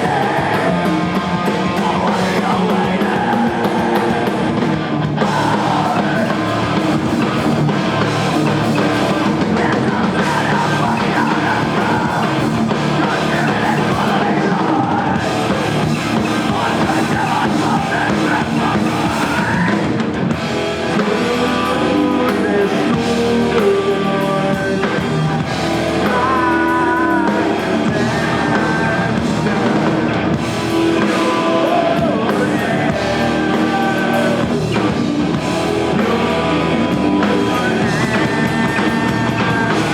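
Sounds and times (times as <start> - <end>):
person singing: 0.0 - 20.0, 20.7 - 39.9
drum kit: 0.0 - 39.9
electric guitar: 0.0 - 39.9.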